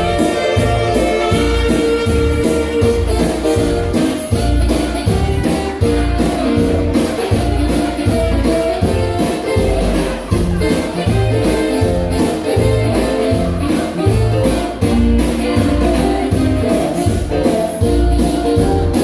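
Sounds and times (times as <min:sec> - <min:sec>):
dance music with bass line: 0:00.0 - 0:19.0.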